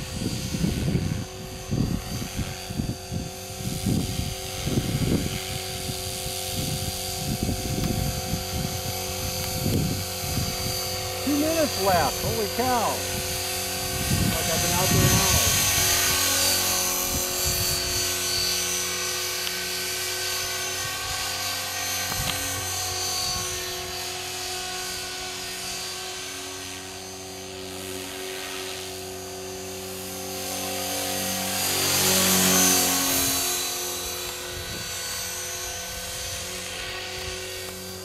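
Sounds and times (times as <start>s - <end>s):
electric motor high whine: 0.0s - 38.0s.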